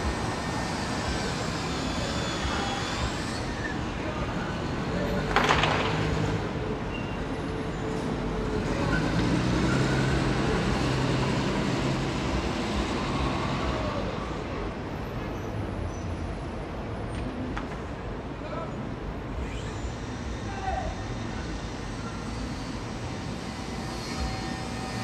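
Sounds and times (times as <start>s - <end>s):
passing traffic: 0.0s - 25.0s.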